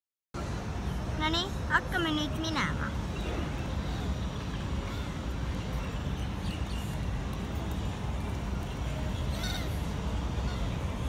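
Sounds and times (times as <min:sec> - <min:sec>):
low outdoor rumble: 0:00.4 - 0:11.0.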